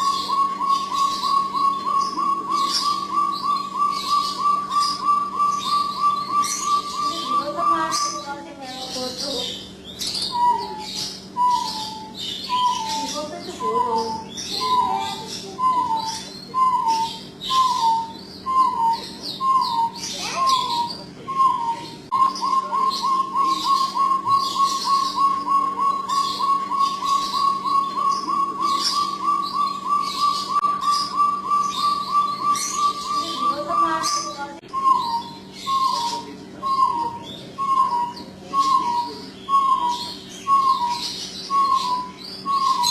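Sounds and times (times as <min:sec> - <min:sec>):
quail whistled calls: 0:00.0 - 0:08.4, 0:09.0 - 0:42.9.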